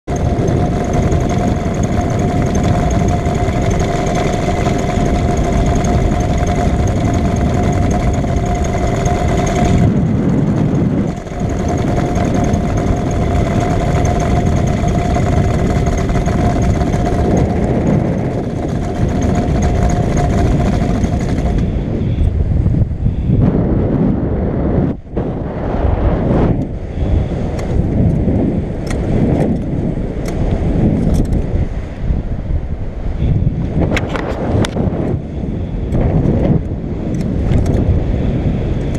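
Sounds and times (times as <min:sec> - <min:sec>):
paramotor engine and propeller: 0:00.0 - 0:38.9
wind on microphone: 0:00.0 - 0:38.9.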